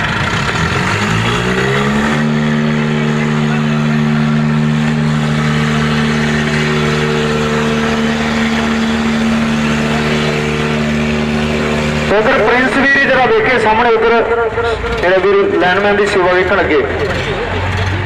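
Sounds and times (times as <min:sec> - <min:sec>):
tractor diesel engine revving: 0:00.0 - 0:18.0.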